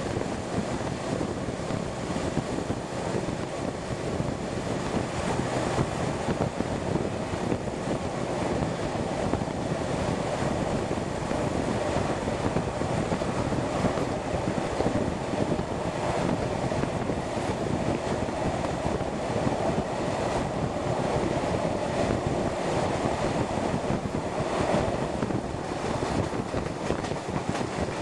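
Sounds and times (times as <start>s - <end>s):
train carriage rumbling: 0.0s - 28.0s
wind buffeting microphone: 0.0s - 28.0s.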